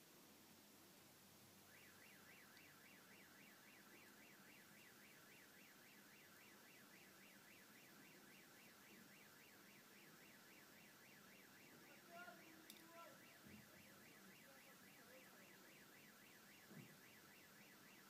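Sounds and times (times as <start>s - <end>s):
faint car alarm warbling: 1.6s - 18.0s.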